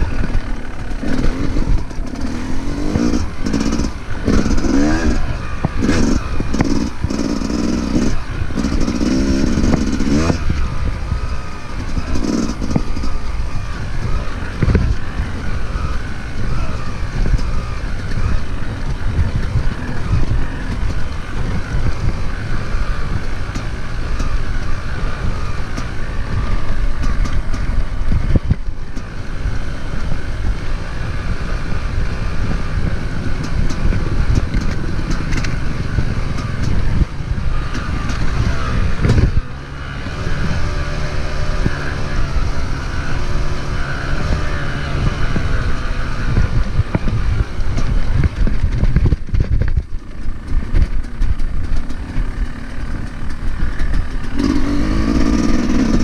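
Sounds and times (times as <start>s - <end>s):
dirt bike engine running: 0.0s - 56.0s
wind buffeting microphone: 0.0s - 56.0s.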